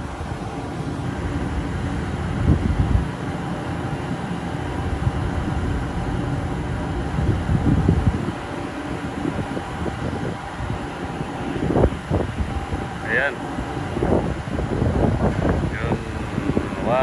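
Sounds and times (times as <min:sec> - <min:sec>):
machinery rumble: 0:00.0 - 0:17.0
wind gusts buffeting microphone: 0:01.2 - 0:03.4, 0:04.8 - 0:17.0.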